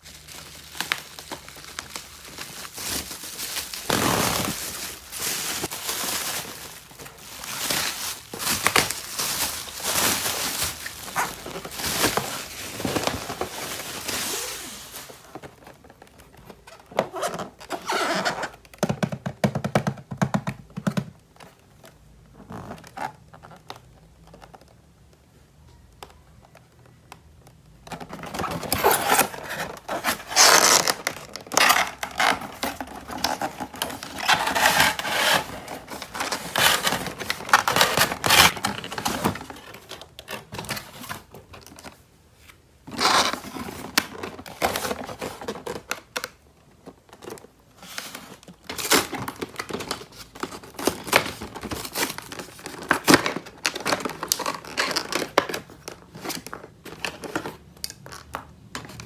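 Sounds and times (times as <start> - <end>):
packaging rustling: 0.0 - 18.6, 28.0 - 59.0.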